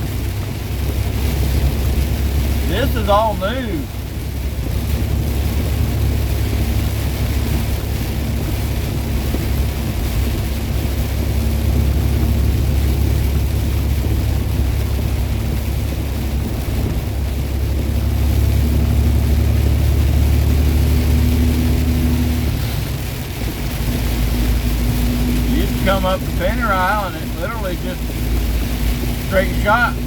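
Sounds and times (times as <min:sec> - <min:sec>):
diesel truck engine droning: 0:00.0 - 0:30.0
road noise: 0:00.0 - 0:30.0.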